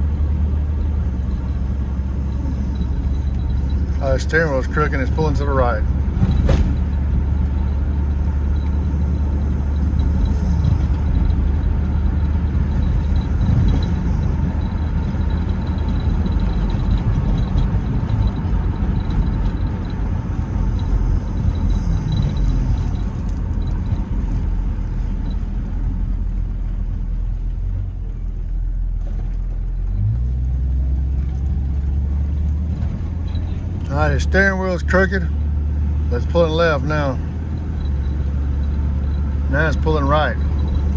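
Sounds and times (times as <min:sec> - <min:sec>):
car engine running: 0:00.0 - 0:40.9
road noise: 0:00.0 - 0:40.9.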